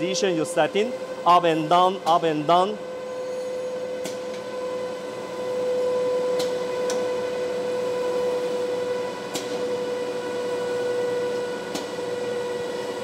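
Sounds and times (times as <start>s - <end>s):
machine whine: 0.0s - 13.0s.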